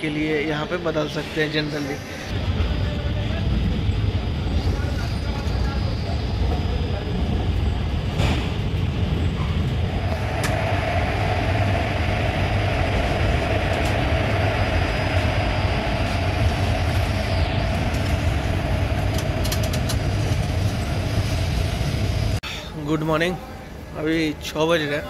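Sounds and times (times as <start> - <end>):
train whine: 0.0 - 22.4
train wheels rumbling on rails: 2.2 - 22.4.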